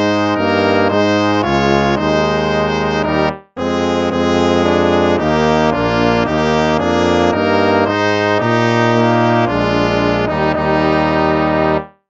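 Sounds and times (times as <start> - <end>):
brass instruments playing a hymn: 0.0 - 12.0.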